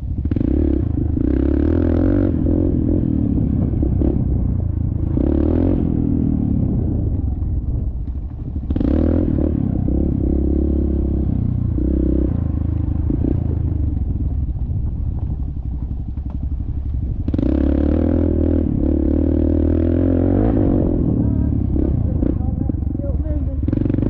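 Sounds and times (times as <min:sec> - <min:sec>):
dirt bike engine revving: 0:00.2 - 0:07.4, 0:08.7 - 0:14.0, 0:17.2 - 0:24.0.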